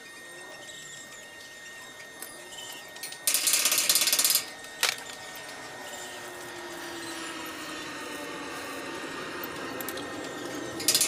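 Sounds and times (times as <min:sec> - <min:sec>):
arc welding crackling sizzle: 0:00.0 - 0:11.0.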